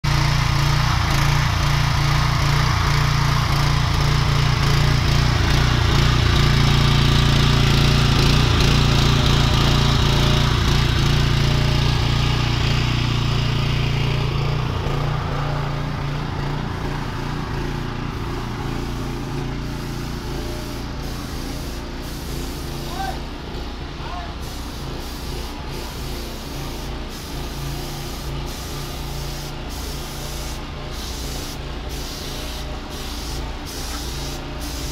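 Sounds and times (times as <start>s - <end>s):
small petrol engine running: 0.0s - 34.9s.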